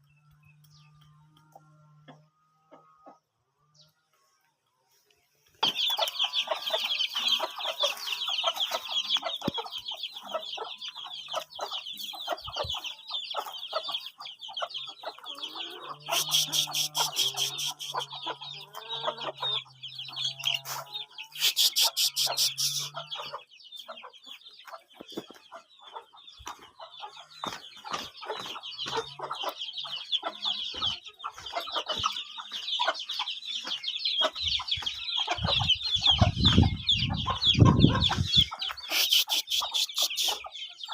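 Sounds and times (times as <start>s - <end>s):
chickens clucking and peeping: 0.0s - 40.9s.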